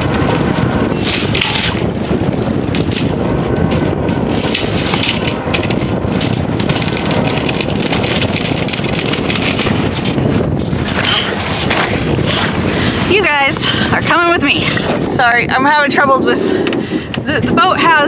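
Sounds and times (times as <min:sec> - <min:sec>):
sail cloth flapping: 0:00.0 - 0:18.0
wind buffeting microphone: 0:00.0 - 0:18.0.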